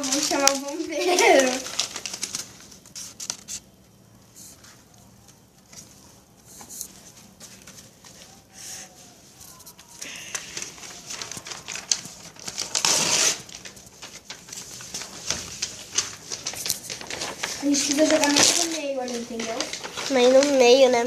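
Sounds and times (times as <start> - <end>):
paper rustling: 0.0 - 3.7, 4.3 - 21.0
paper fire crackling: 0.0 - 21.0.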